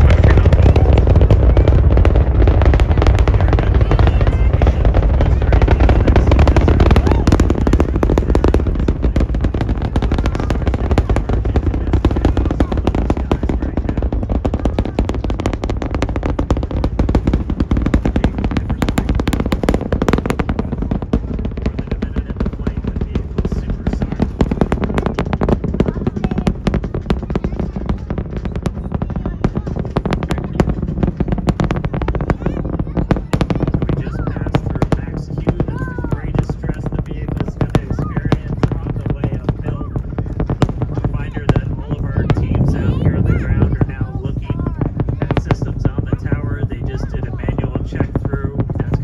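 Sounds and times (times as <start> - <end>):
rocket engines rumbling and crackling: 0.0 - 49.0.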